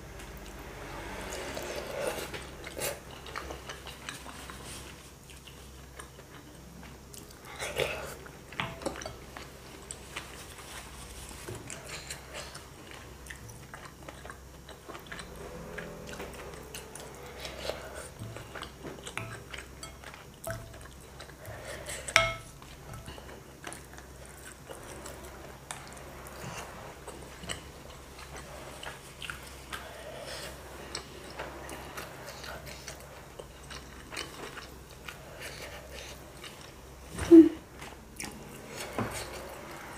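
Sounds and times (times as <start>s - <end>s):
person chewing: 1.3s - 39.7s.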